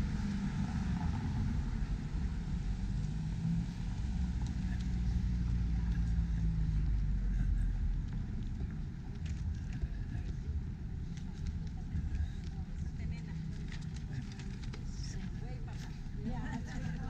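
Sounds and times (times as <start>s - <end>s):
low engine hum: 0.0s - 17.0s
vehicle engine and tyres: 0.0s - 17.0s.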